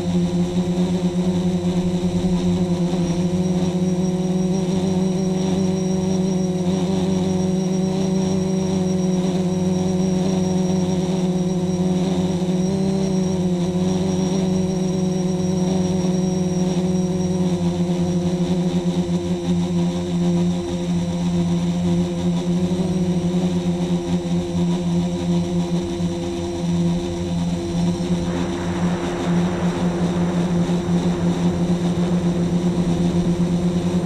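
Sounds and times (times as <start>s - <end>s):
drone motors humming and whining: 0.0s - 34.0s.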